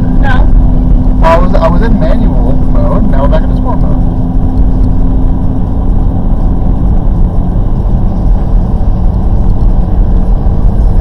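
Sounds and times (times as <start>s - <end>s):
car engine drone: 0.0s - 11.0s
tyres rumbling on snowy road: 0.0s - 11.0s.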